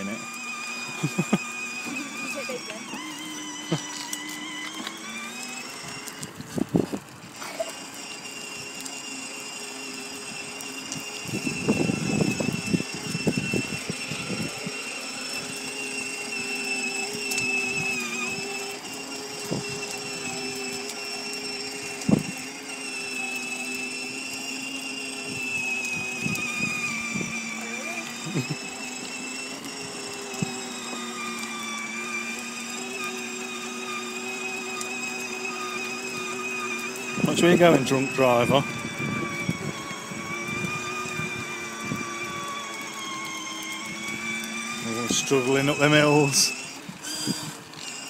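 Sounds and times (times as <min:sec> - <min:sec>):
plastic wheels rumbling: 0:00.0 - 0:48.0
toy car electric motor whining: 0:00.0 - 0:48.0.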